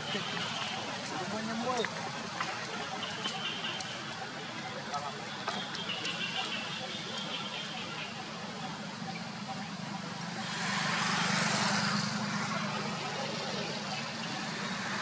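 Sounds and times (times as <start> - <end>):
road traffic hum: 0.0 - 15.0
vehicle passing: 0.0 - 15.0.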